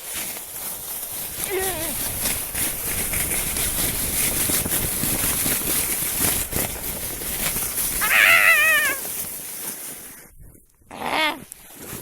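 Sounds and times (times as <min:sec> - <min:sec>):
sled scraping over snow: 0:00.0 - 0:10.7, 0:11.3 - 0:12.0.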